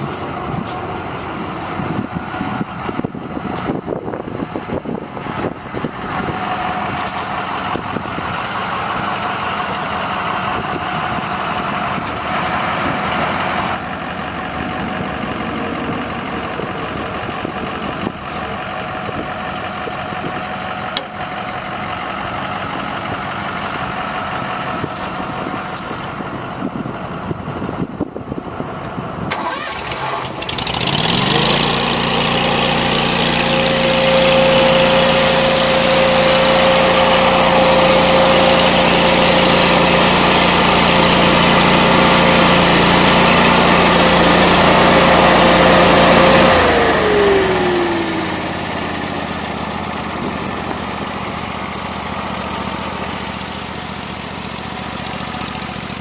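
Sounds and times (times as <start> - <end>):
engine idling: 0.0 - 56.0
small engine starting and running: 0.0 - 56.0.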